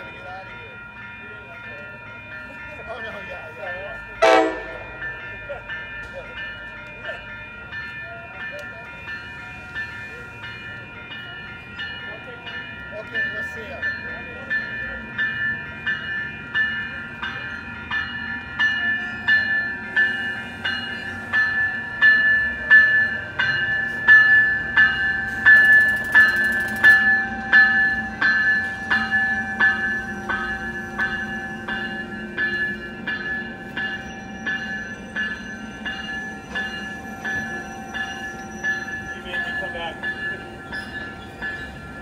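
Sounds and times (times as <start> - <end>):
railroad crossing bell ringing: 0.0 - 42.0
train rumbling: 0.0 - 42.0.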